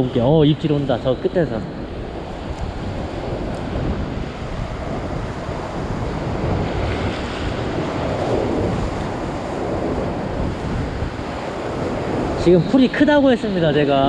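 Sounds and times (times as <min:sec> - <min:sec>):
ocean swell washing over rocks: 0:00.0 - 0:14.0
wind buffeting microphone: 0:00.0 - 0:14.0.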